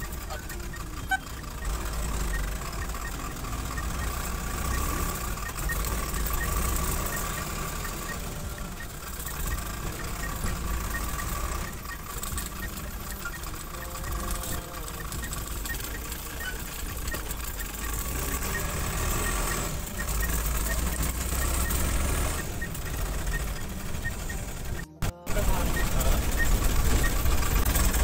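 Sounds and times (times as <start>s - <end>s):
bus engine running: 0.0s - 28.0s
faint regular ticking: 0.0s - 28.0s
road rumble: 0.0s - 28.0s.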